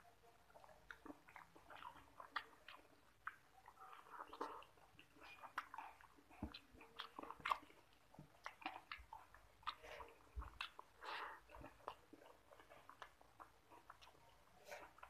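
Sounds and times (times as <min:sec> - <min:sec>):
chewing and wet mouth noises: 0:00.0 - 0:15.0.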